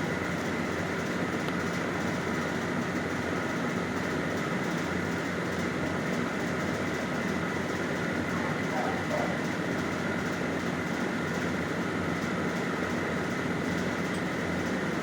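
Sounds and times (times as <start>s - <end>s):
steady mechanical drone: 0.0s - 15.0s.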